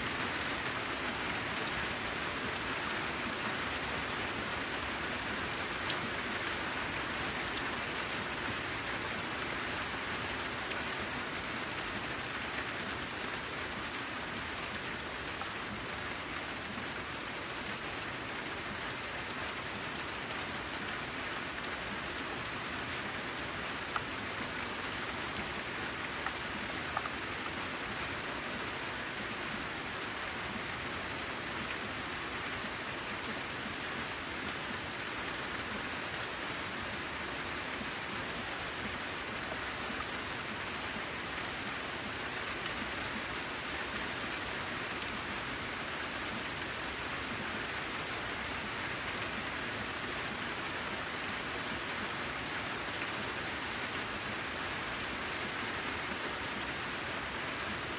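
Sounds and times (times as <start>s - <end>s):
rain on a metal roof: 0.0s - 57.9s.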